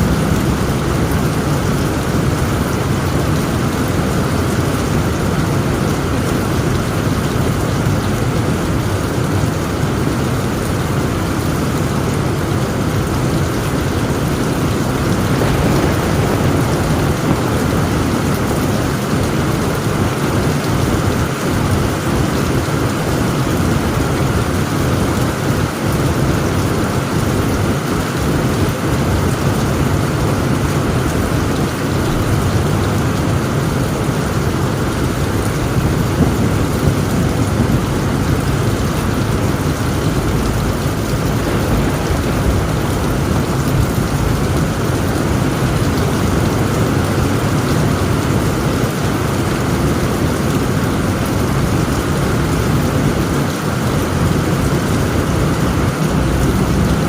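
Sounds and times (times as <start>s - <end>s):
heavy rain on a tent roof: 0.0s - 57.0s
low rumble of thunder: 0.0s - 57.0s.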